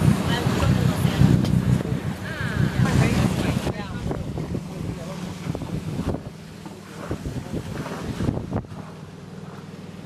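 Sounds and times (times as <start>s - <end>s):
sea wash: 0.0s - 10.0s
wind buffeting microphone: 0.0s - 10.0s.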